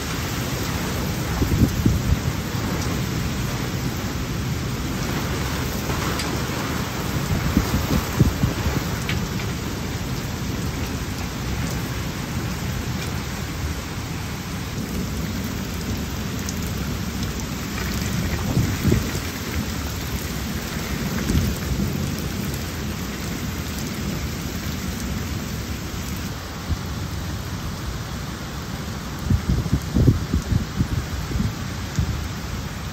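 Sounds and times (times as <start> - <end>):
low rumbling of wind or thunder: 0.0 - 26.9, 28.7 - 32.9
heavy rain on ground and foliage: 0.0 - 32.9.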